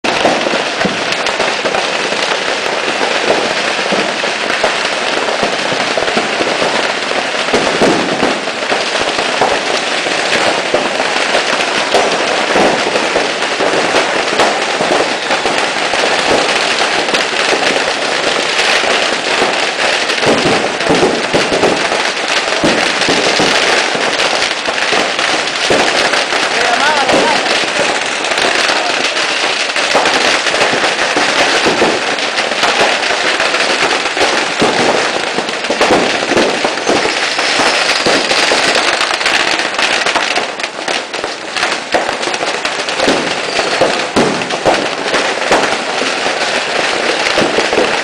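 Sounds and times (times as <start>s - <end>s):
firecrackers crackling and banging: 0.0s - 48.0s.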